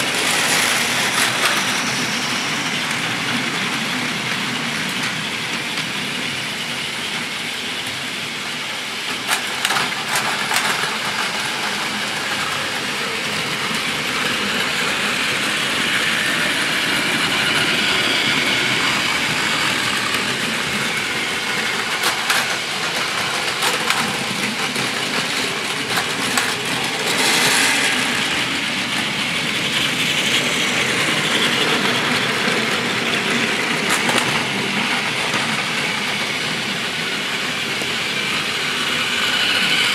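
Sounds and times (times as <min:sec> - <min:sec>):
toy trains whirring and rattling: 0:00.0 - 0:39.9.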